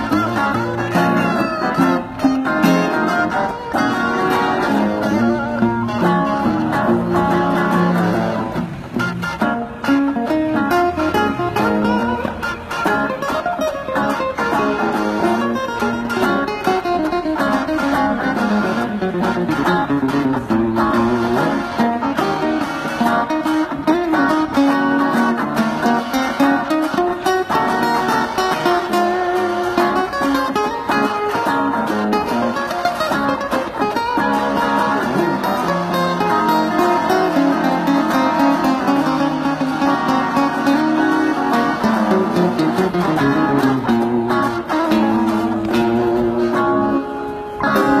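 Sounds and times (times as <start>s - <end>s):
guitars plucking together: 0.0s - 48.0s.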